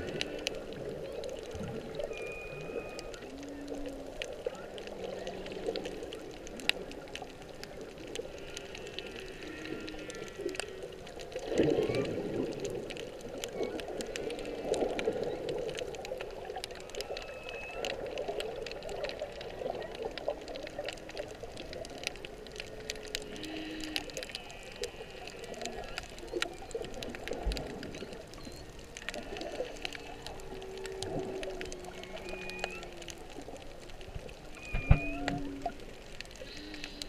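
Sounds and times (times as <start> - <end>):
faint clicks crackling: 0.0 - 37.0
water washing around camera: 0.0 - 37.0
whale song underwater: 0.0 - 37.0.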